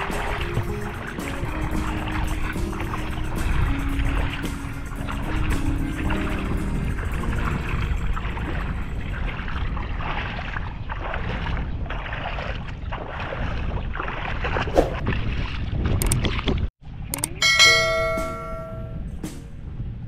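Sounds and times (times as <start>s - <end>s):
river water splashing: 0.0s - 16.7s, 17.4s - 18.9s
wind rumbling on microphone: 0.0s - 20.0s.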